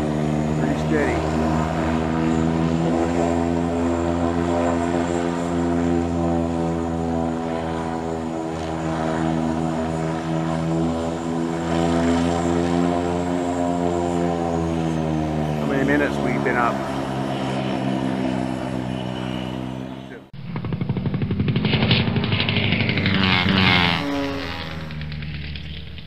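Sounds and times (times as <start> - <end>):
model plane engine drone: 0.0 - 26.0.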